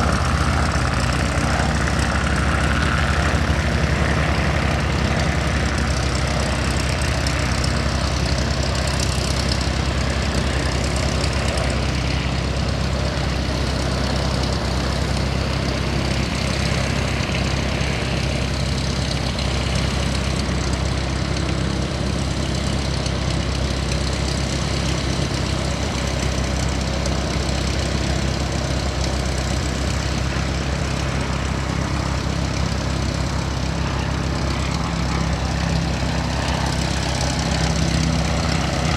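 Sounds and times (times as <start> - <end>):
aircraft engine idling: 0.0 - 38.9.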